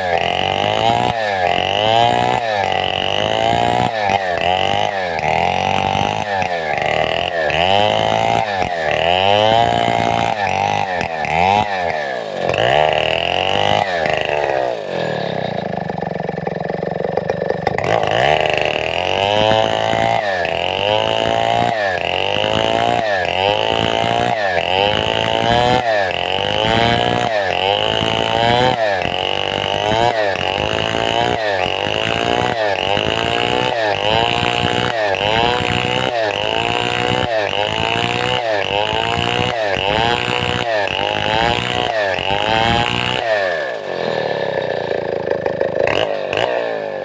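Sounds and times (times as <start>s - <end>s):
chainsaw ripping a log: 0.0s - 47.0s.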